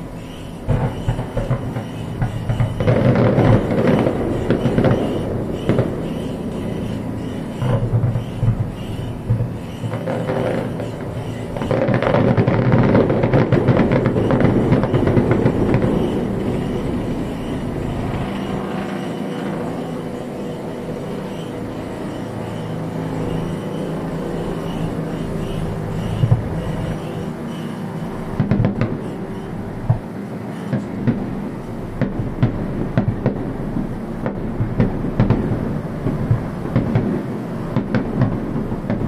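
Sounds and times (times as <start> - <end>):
fireworks crackling: 0.0 - 39.0
fireworks rolling rumble: 0.0 - 39.0.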